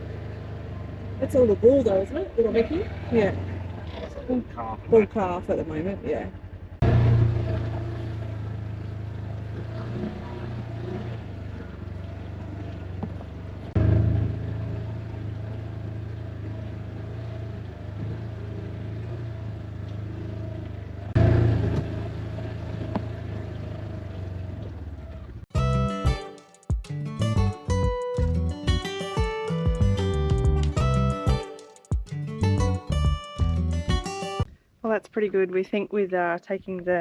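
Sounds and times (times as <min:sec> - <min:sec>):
vehicle engine humming: 0:00.0 - 0:34.5.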